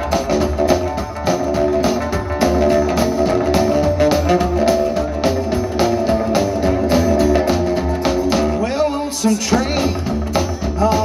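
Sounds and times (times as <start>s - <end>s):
live rockabilly band playing: 0.0s - 11.0s.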